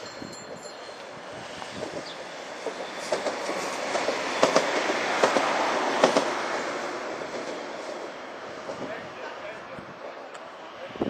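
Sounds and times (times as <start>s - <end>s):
tram rumbling past: 0.0s - 11.0s.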